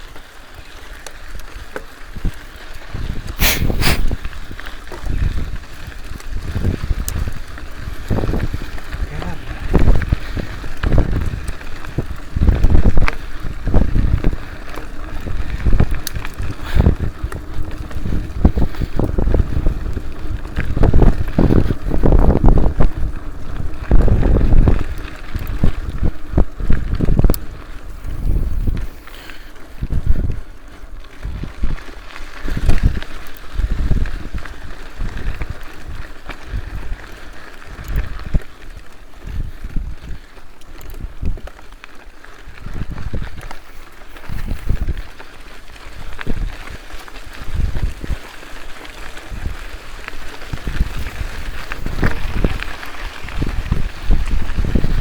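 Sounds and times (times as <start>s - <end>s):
wind buffeting microphone: 1.3s - 55.0s.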